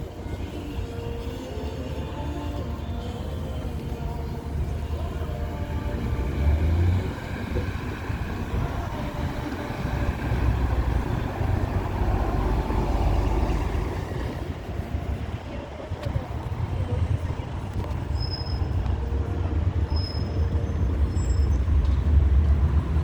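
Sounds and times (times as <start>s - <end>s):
rumble of passing traffic: 0.0s - 23.0s.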